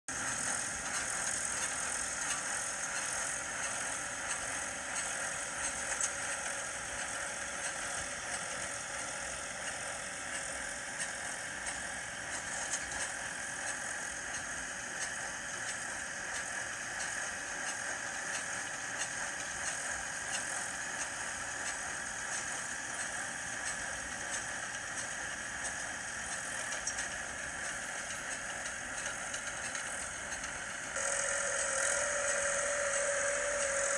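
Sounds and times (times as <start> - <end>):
farm machinery clattering: 0.1 - 33.9.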